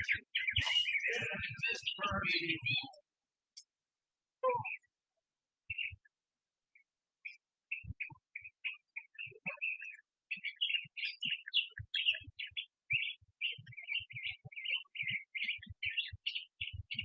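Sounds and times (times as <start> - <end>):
songbirds chirping rapidly: 0.0 - 3.0, 4.4 - 4.9, 5.6 - 17.0.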